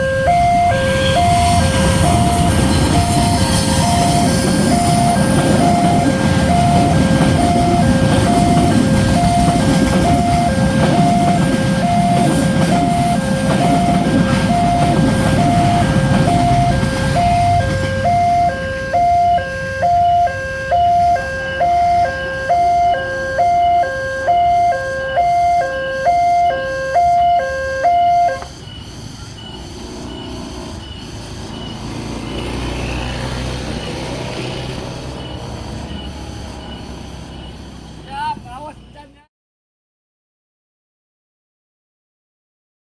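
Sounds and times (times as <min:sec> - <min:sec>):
level crossing alarm ringing: 0:00.0 - 0:39.2
passing train rumble: 0:00.0 - 0:39.2.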